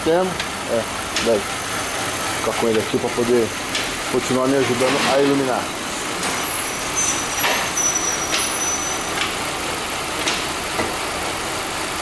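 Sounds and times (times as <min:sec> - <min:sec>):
vehicle lift hissing: 0:00.0 - 0:11.6.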